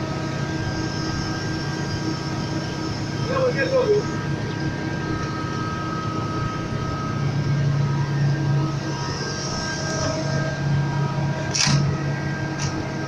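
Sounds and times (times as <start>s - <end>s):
excavator diesel engine idling: 0.0s - 13.0s.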